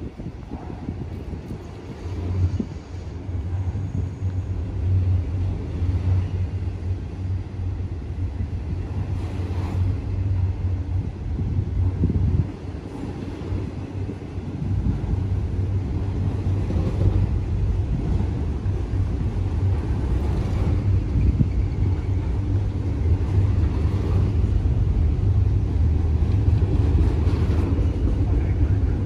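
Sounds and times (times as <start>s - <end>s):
moving vehicle rumble: 0.0s - 29.0s.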